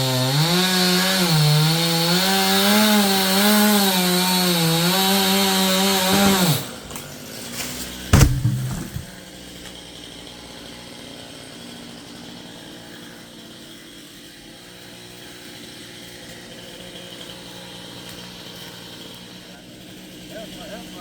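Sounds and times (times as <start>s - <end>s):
chainsaw cutting: 0.0s - 21.0s.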